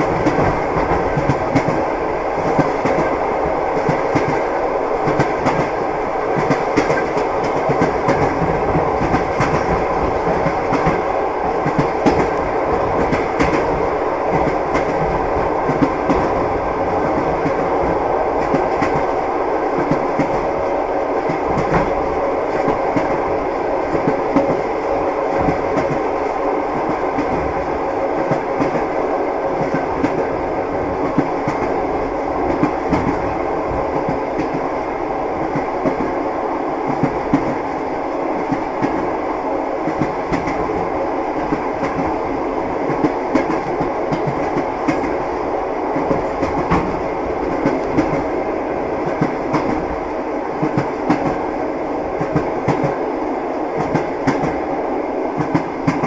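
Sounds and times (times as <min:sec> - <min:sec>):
train wheels clickety-clack: 0:00.0 - 0:36.2, 0:36.8 - 0:56.0.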